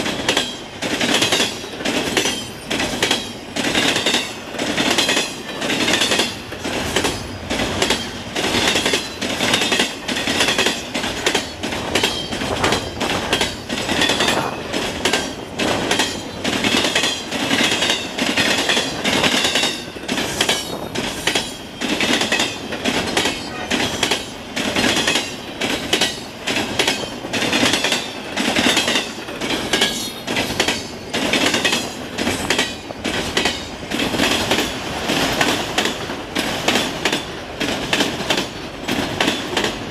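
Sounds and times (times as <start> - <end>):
train wheels clanking: 0.0 - 39.9.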